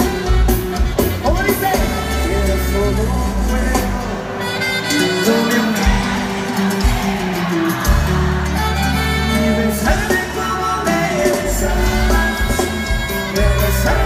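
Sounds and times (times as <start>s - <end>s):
live band through pa system: 0.0s - 14.0s.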